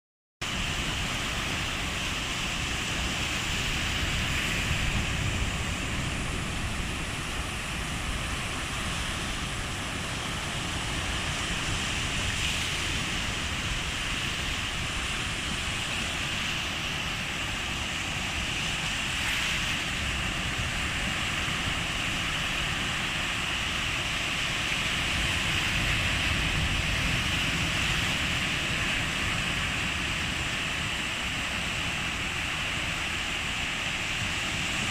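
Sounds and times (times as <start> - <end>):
small waves washing on shore: 0.4 - 34.9
wind rumble on microphone: 0.4 - 34.9.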